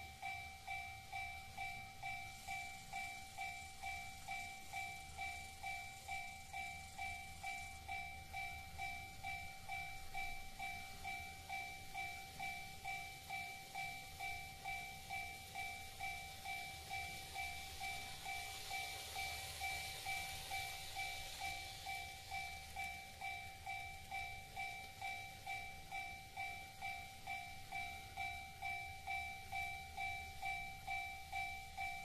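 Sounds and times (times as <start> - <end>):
faint model train running hiss: 0.0 - 32.0
level-crossing warning bell: 0.0 - 32.0.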